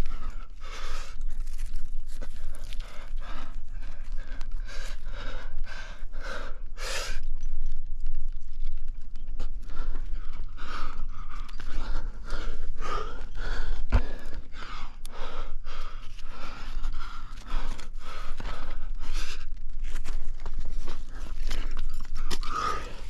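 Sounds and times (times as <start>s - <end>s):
person breathing hard: 0.0s - 7.4s, 9.4s - 23.0s.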